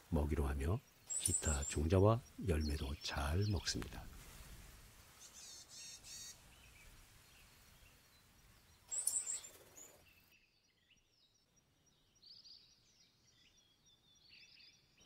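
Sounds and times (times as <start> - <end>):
bird chirps: 0.0 - 4.1, 5.1 - 15.0
faint outdoor hiss: 0.0 - 15.0.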